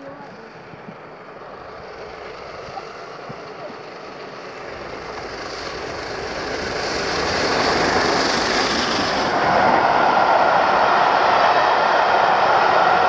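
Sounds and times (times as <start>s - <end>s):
steam train approaching: 1.2s - 13.0s.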